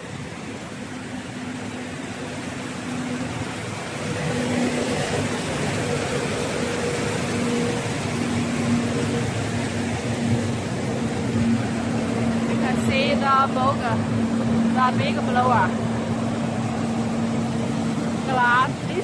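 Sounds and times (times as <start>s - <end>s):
cooling blower rushing air: 0.0s - 19.0s.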